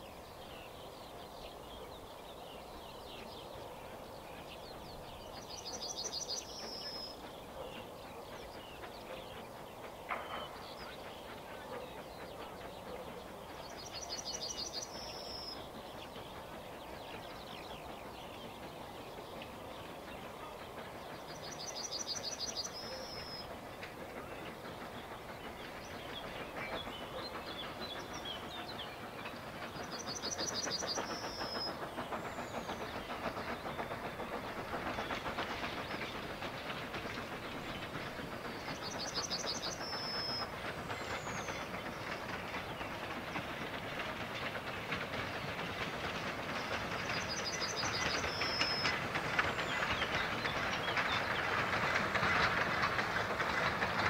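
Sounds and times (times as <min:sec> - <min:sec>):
steam train chuffing: 0:00.0 - 0:54.0.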